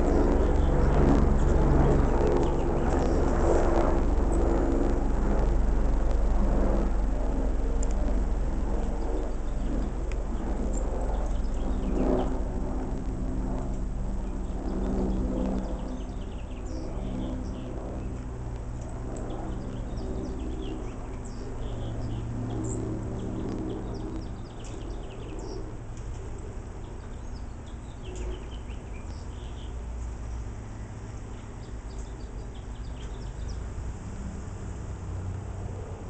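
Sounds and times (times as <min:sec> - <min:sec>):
small birds chirping: 0:00.0 - 0:33.7
steady low hum: 0:00.0 - 0:36.0.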